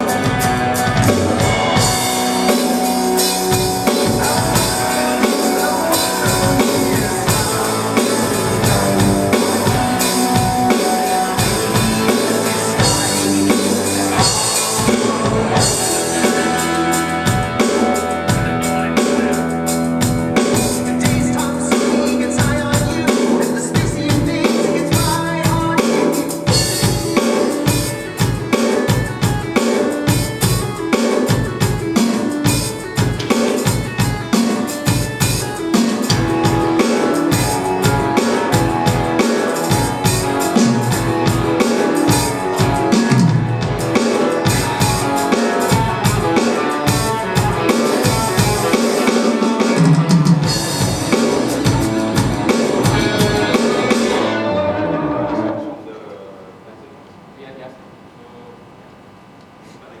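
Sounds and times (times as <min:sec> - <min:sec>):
sustained pitched instruments: 0:00.0 - 0:24.1, 0:24.7 - 0:58.1
drum kit steady beat: 0:00.0 - 0:54.8.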